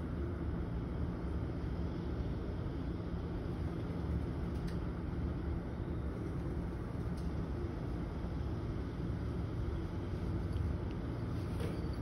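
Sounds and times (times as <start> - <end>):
faint hum: 0.0 - 12.0
low outdoor rumble: 0.0 - 12.0.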